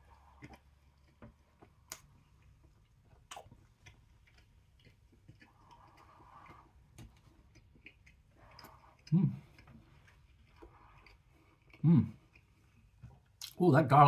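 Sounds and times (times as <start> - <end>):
close-up chewing: 0.0 - 13.6.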